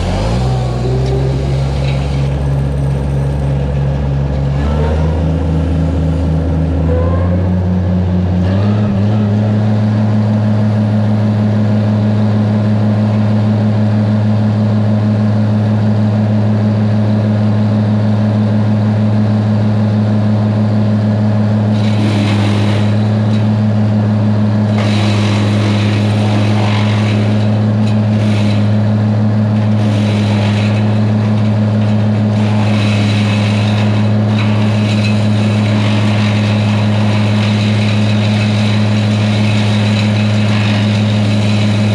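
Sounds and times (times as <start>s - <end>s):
loader engine running: 0.0s - 41.9s.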